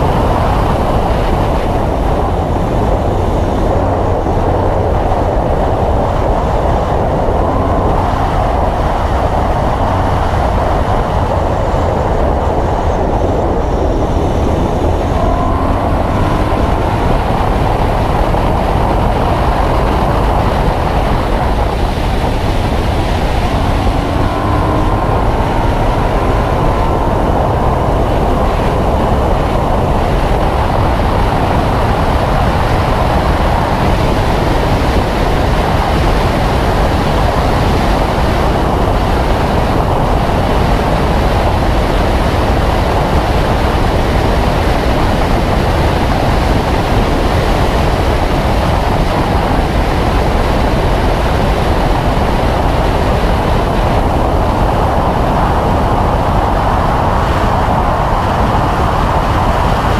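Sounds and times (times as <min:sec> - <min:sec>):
car engine at high revs: 0:00.0 - 0:59.9
wind and road noise: 0:00.0 - 0:59.9.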